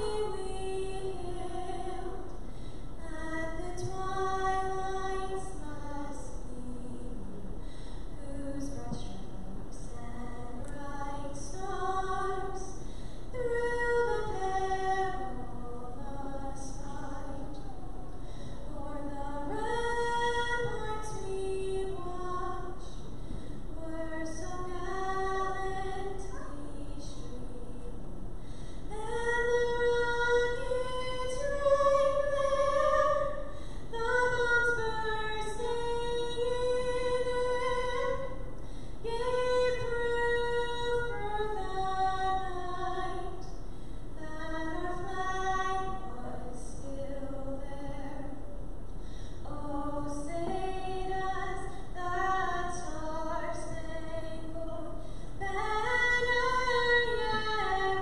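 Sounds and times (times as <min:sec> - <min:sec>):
woman singing unaccompanied: 0:00.0 - 0:02.4, 0:03.0 - 0:07.6, 0:08.2 - 0:23.0, 0:23.7 - 0:28.2, 0:28.9 - 0:38.4, 0:39.0 - 0:43.5, 0:44.2 - 0:48.5, 0:49.4 - 0:58.0.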